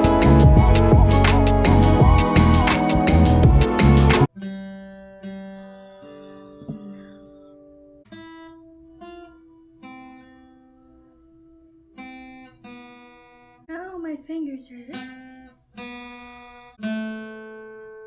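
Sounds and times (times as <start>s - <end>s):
acoustic guitar plucked notes: 0.0s - 18.0s.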